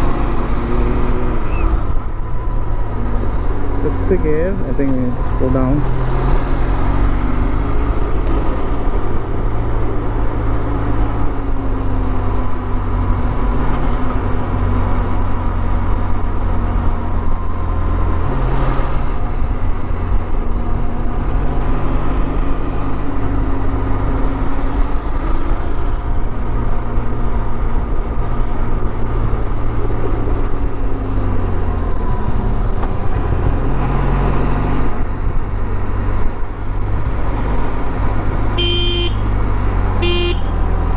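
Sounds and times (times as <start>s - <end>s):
motorcycle engine droning: 0.0s - 18.2s, 19.0s - 40.9s.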